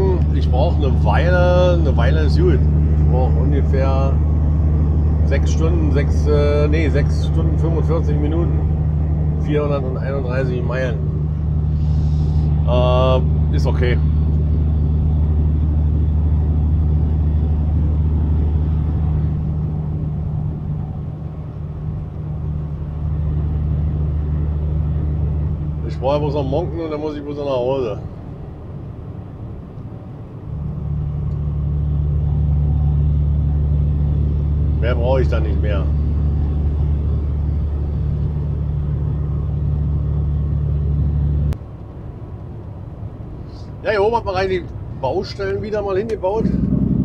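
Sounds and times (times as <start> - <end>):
diesel engine drone: 0.0 - 47.0
road and tyre noise: 0.0 - 47.0.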